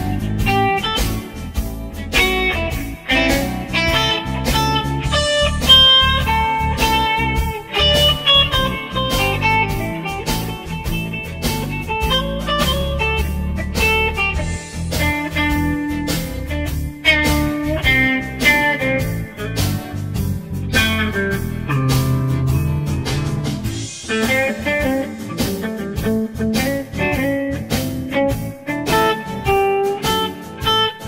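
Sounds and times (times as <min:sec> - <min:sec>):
blues electric guitar: 0:00.0 - 0:31.0
steady drum beat: 0:00.0 - 0:31.0.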